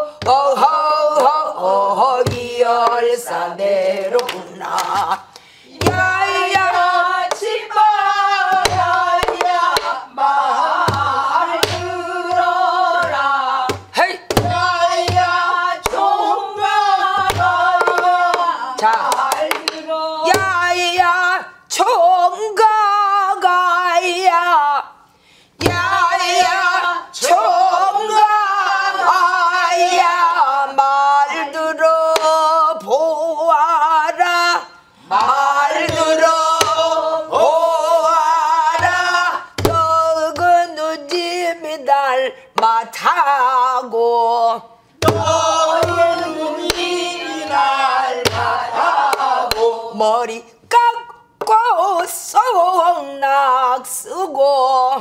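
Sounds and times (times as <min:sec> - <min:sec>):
woman singing with vibrato: 0:00.0 - 0:55.0.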